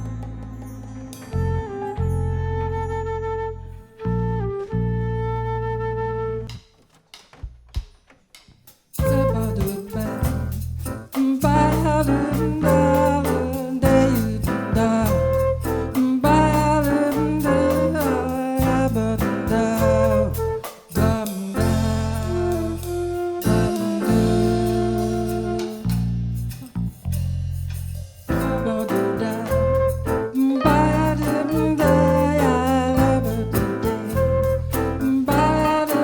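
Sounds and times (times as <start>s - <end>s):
jazz band playing slow ballad: 0.0s - 3.4s, 9.0s - 36.0s.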